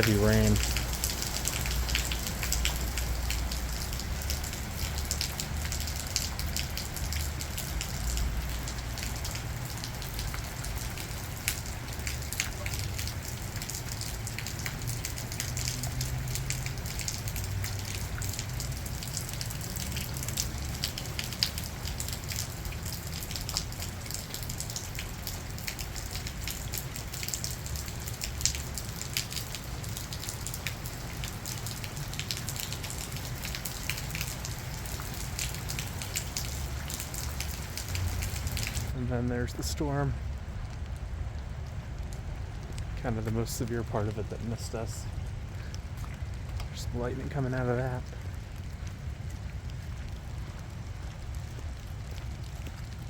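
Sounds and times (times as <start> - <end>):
drops ticking on a surface: 0.0 - 39.0, 41.6 - 43.8, 45.6 - 53.0
heavy rain falling: 0.0 - 53.0.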